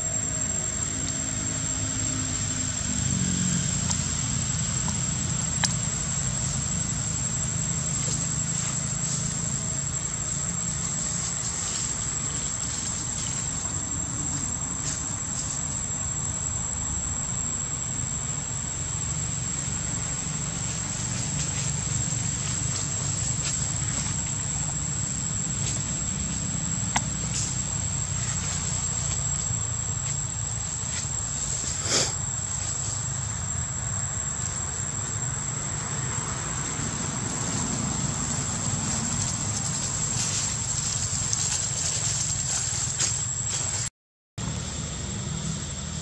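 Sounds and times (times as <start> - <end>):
high insect drone: 0.0 - 46.0.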